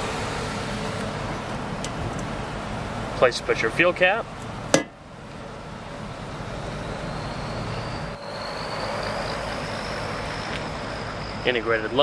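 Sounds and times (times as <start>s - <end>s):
passing motor vehicle: 0.0s - 12.0s.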